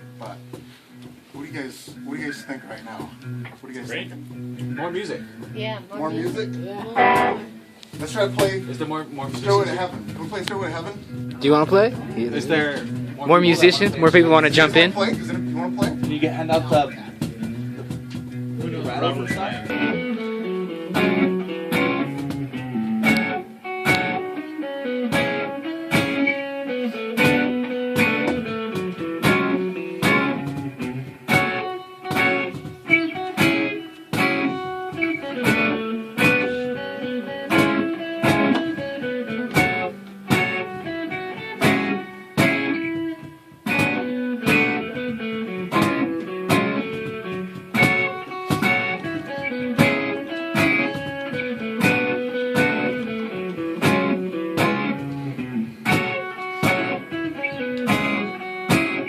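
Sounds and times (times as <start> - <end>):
guitar plucked notes and chords: 0.0 - 59.0.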